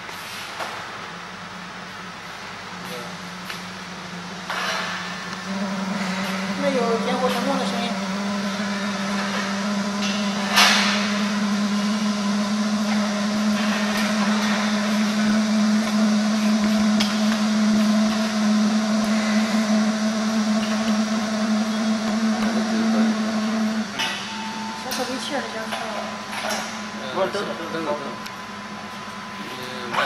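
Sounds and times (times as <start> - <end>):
air heater blower humming: 0.0 - 30.0.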